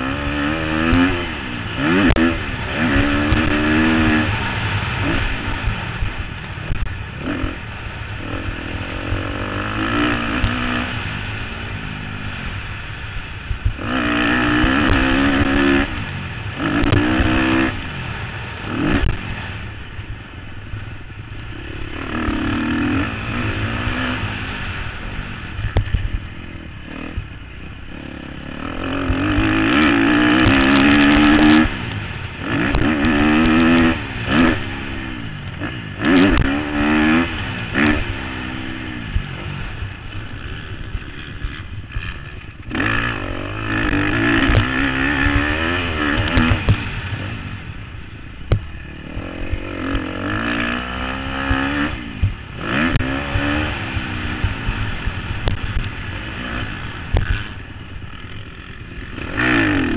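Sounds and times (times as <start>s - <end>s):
low wind rumble: 0.0s - 59.9s
motorcycle engine revving: 0.0s - 59.9s.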